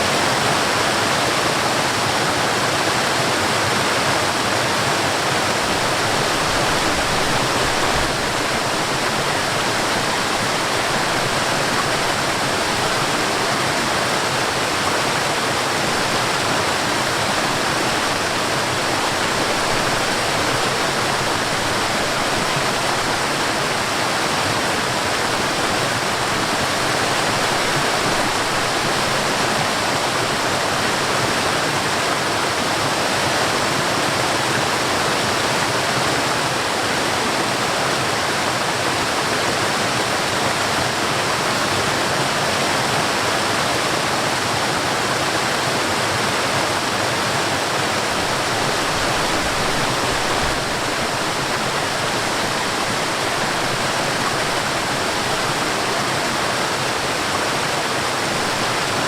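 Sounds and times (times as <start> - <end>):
waterfall and stream rushing: 0.0 - 59.0.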